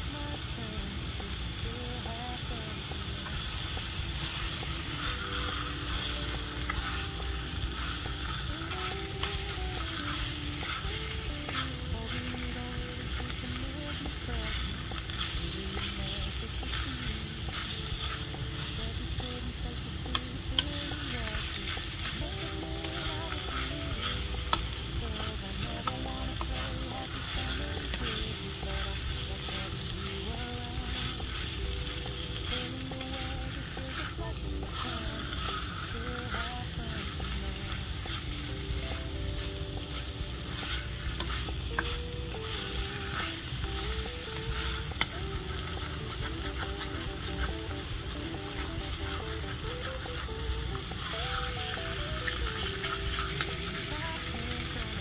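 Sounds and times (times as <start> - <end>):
meat sizzling in a wok: 0.0 - 55.0
wooden spatula scraping: 4.1 - 19.4, 20.1 - 54.0.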